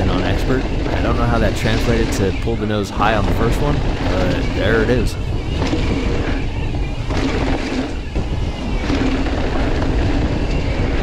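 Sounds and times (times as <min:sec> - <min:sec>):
bike tyres rumbling on dirt: 0:00.0 - 0:11.0
wind on camera microphone: 0:00.0 - 0:11.0.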